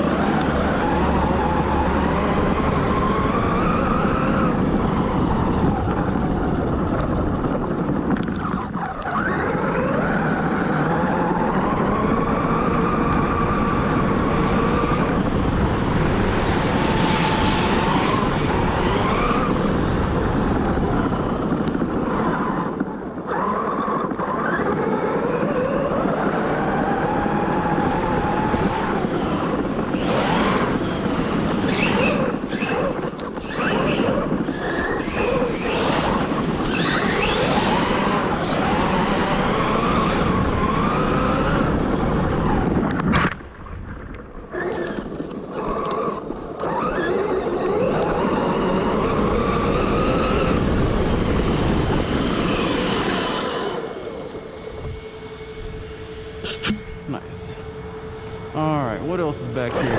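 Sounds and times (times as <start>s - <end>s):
electric motor whining: 0.0s - 43.4s, 44.5s - 59.9s.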